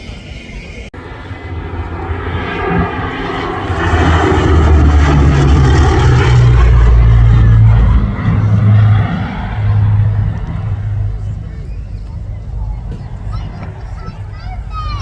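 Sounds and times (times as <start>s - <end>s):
aircraft engine drone: 0.2s - 15.0s.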